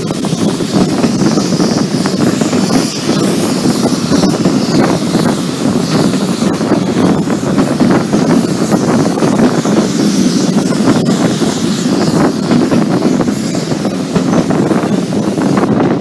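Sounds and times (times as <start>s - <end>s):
train coach rumbling on track: 0.0s - 16.0s
wind buffeting microphone: 0.0s - 16.0s.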